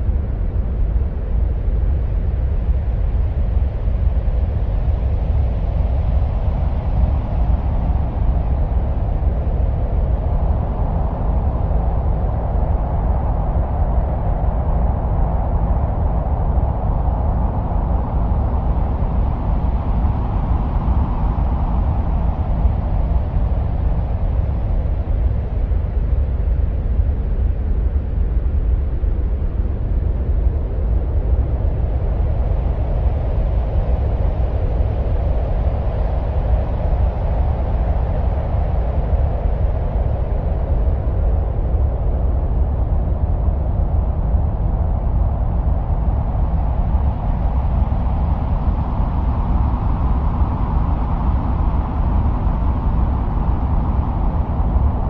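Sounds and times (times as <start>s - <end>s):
deep wind-like rumble: 0.0s - 55.0s.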